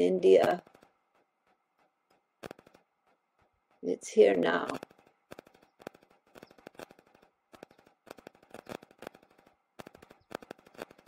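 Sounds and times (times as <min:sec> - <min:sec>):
faint clicking and crackling: 0:00.0 - 0:11.0.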